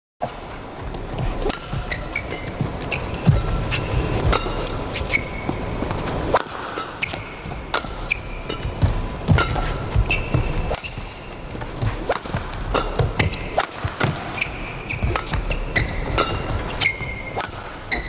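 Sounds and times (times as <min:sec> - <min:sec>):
shoes squeaking on court: 0:00.2 - 0:18.0
racket hitting shuttlecock: 0:01.4 - 0:18.0.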